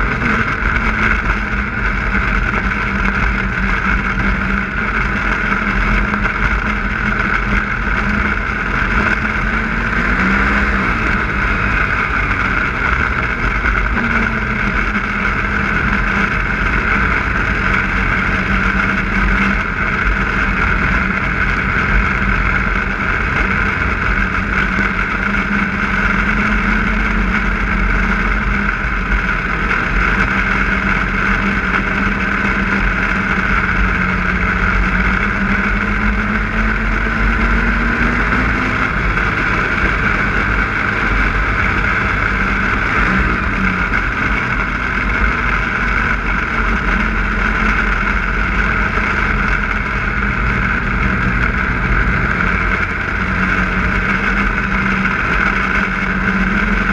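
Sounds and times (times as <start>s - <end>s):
snowmobile engine cruising: 0.0s - 56.9s.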